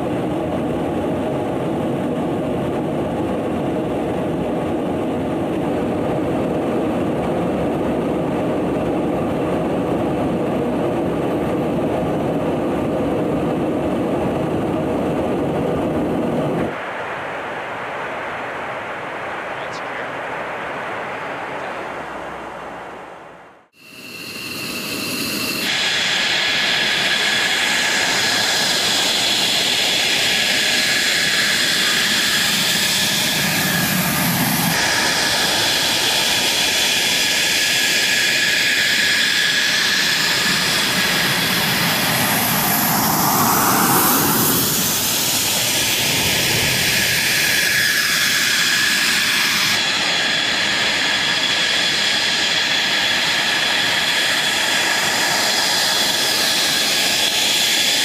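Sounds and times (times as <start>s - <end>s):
jet engine running: 0.0s - 58.0s.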